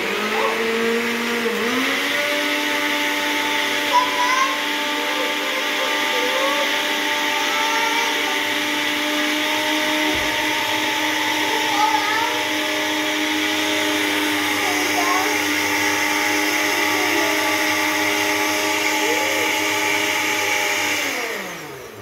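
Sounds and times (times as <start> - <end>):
blender motor churning: 0.0 - 22.0.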